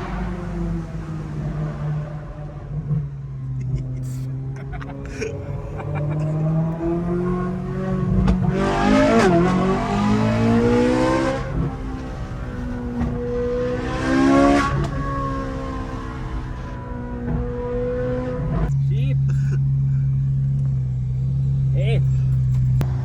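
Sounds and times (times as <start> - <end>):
sports car engine revving: 0.0 - 23.0.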